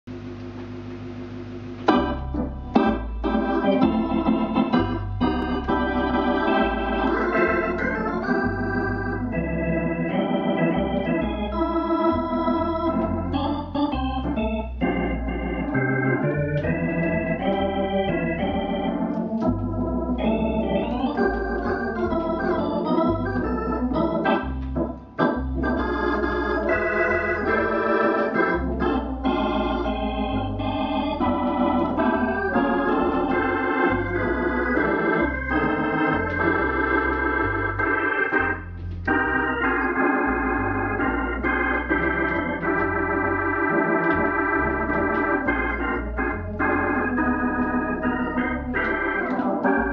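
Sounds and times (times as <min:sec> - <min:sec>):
organ chords and bass line: 0:00.0 - 0:49.9.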